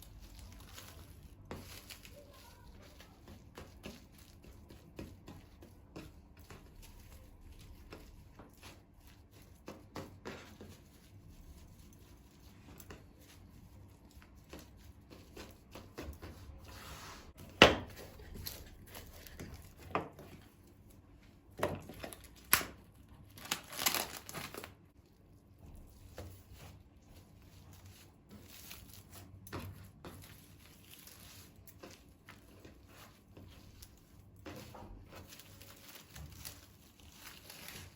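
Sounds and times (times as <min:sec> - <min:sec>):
crinkling and rustling: 0:00.0 - 0:37.9.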